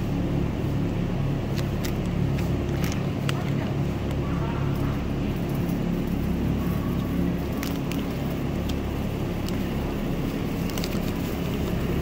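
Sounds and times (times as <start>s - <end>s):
shopping cart wheels rumbling: 0.0s - 12.0s
cart clicks and rattles: 1.5s - 12.0s.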